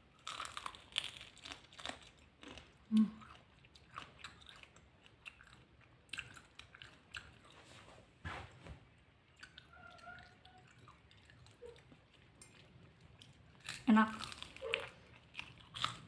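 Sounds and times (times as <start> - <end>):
crunchy chewing of chicken: 0.0 - 7.7, 9.0 - 16.0.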